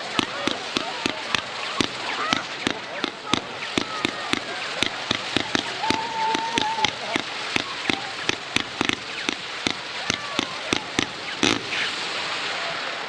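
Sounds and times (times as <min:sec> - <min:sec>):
firework shots firing: 0:00.0 - 0:12.4
firework crackle: 0:00.0 - 0:13.0.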